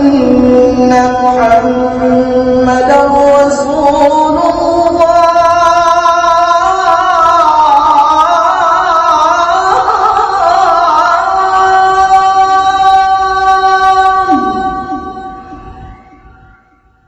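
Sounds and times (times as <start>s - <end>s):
man singing call to prayer: 0.0s - 15.6s.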